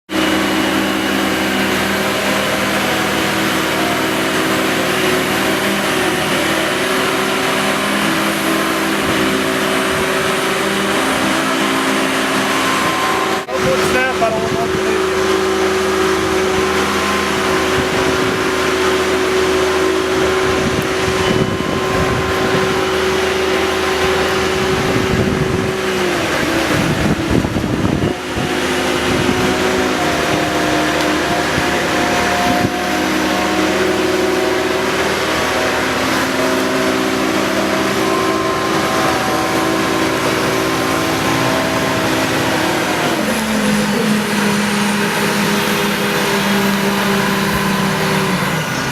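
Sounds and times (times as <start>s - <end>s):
heavy machinery engine running: 0.1s - 48.9s.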